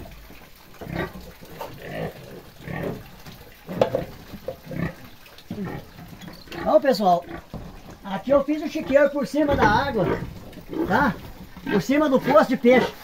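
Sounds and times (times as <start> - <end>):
pig grunting while eating: 0.0 - 13.0.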